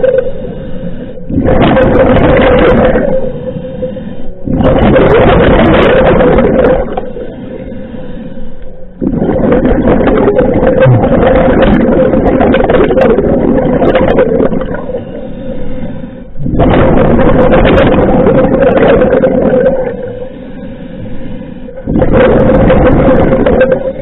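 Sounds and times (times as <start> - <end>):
underwater regulator bubbling: 0.0 - 24.0.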